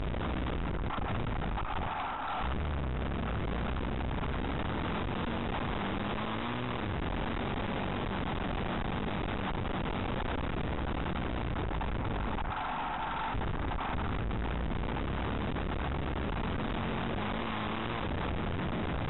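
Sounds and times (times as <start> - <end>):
motorcycle engine drone: 0.0 - 19.0.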